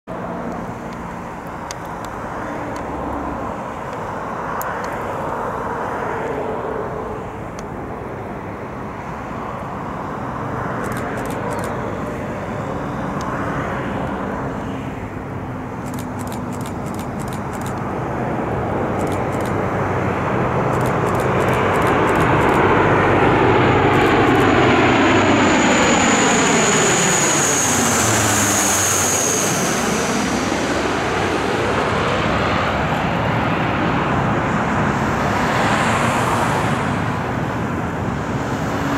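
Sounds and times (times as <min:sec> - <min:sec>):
turboprop plane droning: 0:00.1 - 0:38.9.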